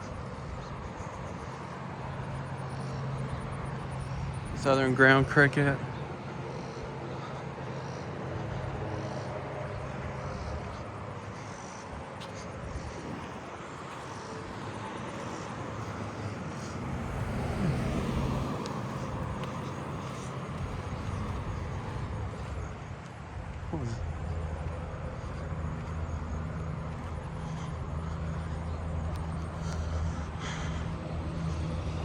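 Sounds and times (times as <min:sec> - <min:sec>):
faint insects trilling: 0:00.0 - 0:32.0
passing vehicle engine rumble: 0:00.0 - 0:32.0.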